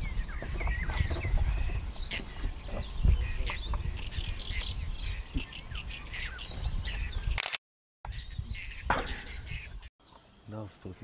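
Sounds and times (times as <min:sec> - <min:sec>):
small birds chirping: 0:00.0 - 0:07.5, 0:08.1 - 0:11.0.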